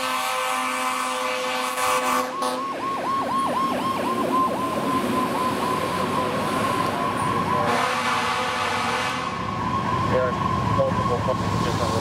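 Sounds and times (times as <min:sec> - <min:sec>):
fire engine siren yelping: 0:00.0 - 0:12.0.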